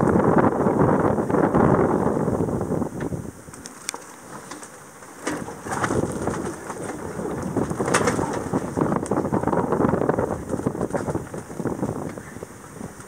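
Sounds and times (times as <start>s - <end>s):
hull rustling through seaweed: 2.1s - 13.0s.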